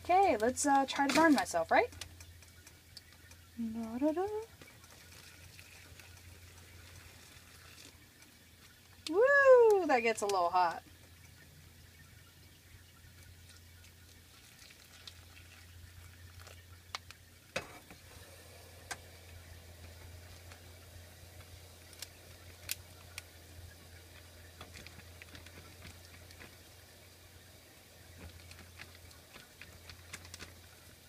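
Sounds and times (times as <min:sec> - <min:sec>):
steady low hum: 0:00.0 - 0:31.0
plastic bag clicks and crinkles: 0:00.4 - 0:10.4, 0:13.2 - 0:18.0, 0:18.8 - 0:27.2, 0:28.1 - 0:31.0.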